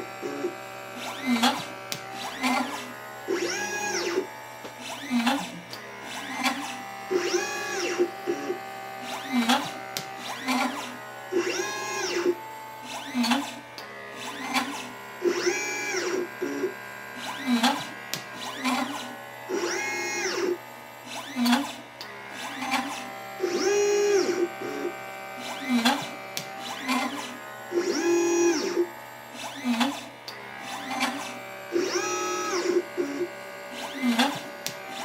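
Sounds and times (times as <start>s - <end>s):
stepper motors whining: 0.0s - 35.0s.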